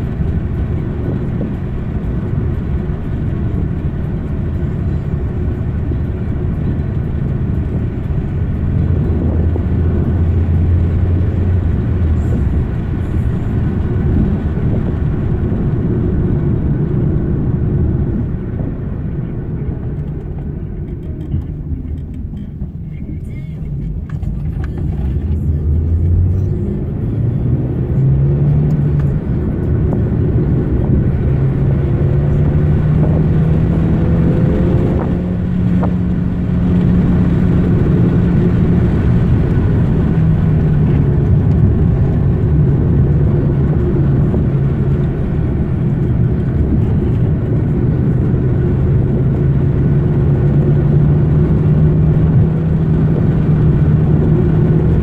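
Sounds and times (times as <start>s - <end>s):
car engine accelerating: 0.0s - 55.0s
road and tyre rumble: 0.0s - 55.0s.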